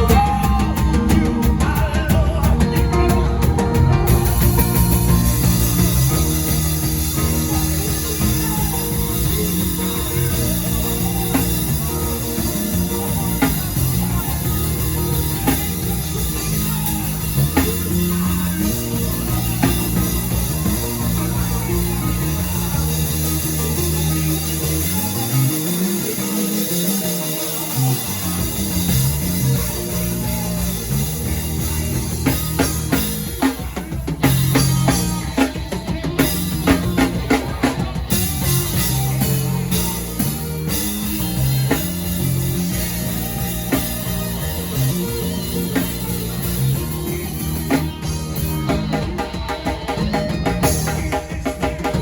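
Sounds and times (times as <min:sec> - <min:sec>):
bass: 0:00.0 - 0:52.0
drum kit: 0:00.0 - 0:52.0
guitar: 0:00.0 - 0:52.0.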